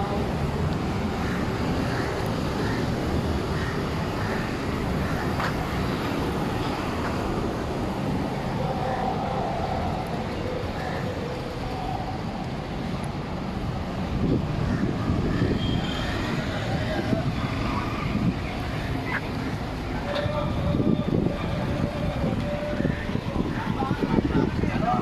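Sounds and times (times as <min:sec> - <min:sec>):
faint voices: 0:00.0 - 0:12.7, 0:14.7 - 0:25.0
cars passing on road: 0:00.0 - 0:25.0
motor scooter engines: 0:00.0 - 0:25.0.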